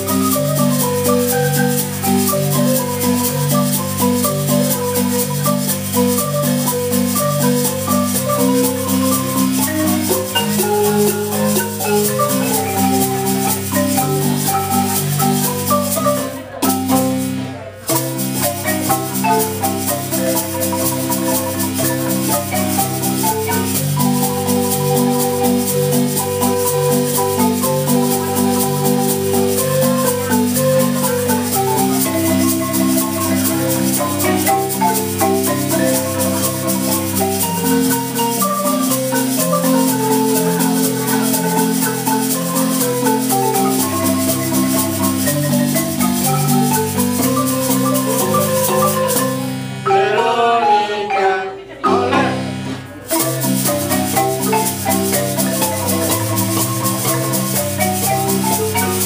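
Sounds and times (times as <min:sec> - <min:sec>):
wooden marimba playing: 0:00.0 - 0:59.0.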